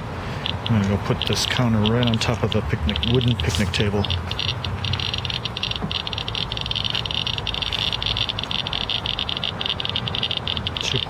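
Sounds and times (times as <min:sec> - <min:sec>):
geiger counter clicking rapidly: 0:00.4 - 0:11.0.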